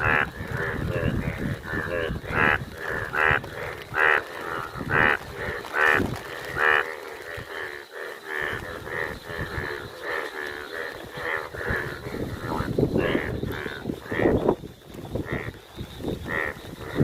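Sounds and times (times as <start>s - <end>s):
bullfrogs calling: 0.0s - 17.0s.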